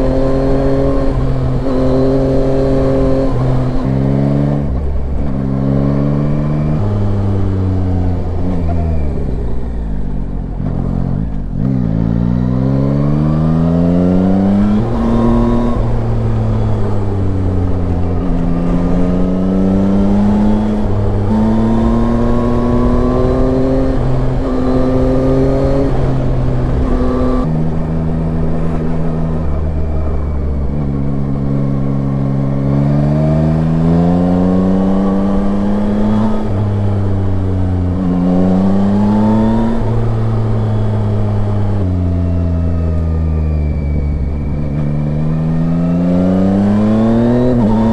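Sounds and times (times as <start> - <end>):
motorcycle engine through gears: 0.0 - 47.9.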